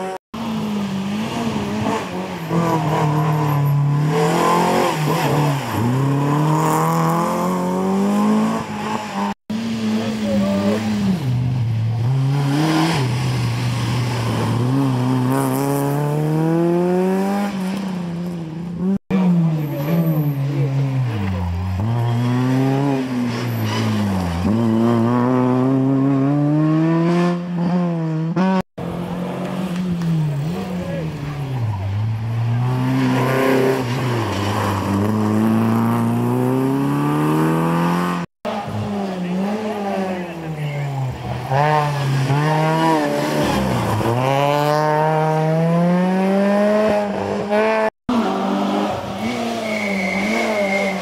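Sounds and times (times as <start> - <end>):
rally cars accelerating: 0.0 - 51.0.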